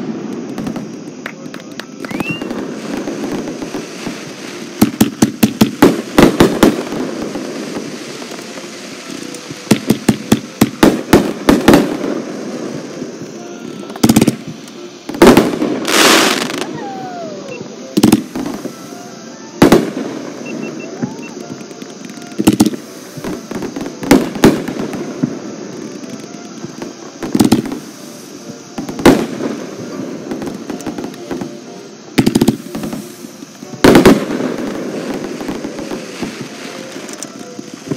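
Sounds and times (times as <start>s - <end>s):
fireworks bangs and booms: 0.0s - 37.9s
fireworks crackling: 0.0s - 37.9s.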